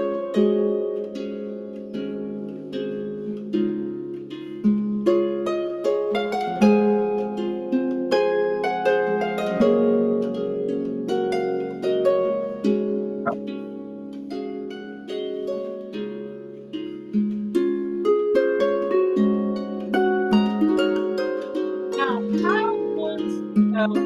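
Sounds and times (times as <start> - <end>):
harp plucked notes: 0.0 - 24.0.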